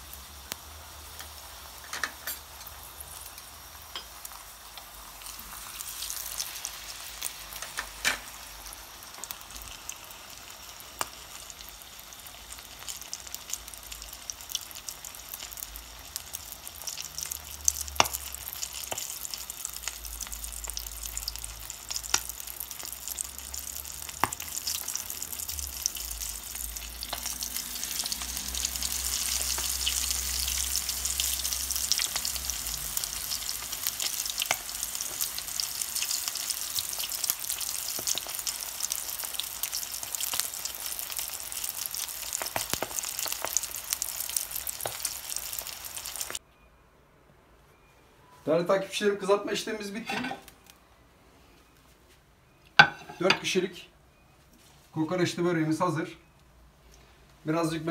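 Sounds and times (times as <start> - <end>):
deep-frying sizzle: 0.0 - 46.4.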